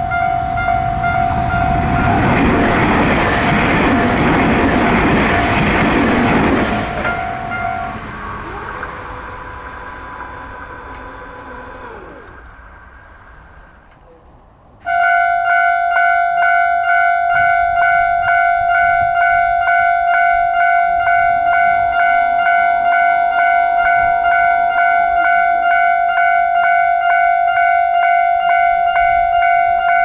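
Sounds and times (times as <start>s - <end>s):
electronic warning bell ringing: 0.0s - 13.9s, 14.9s - 30.0s
passing train: 0.0s - 30.0s.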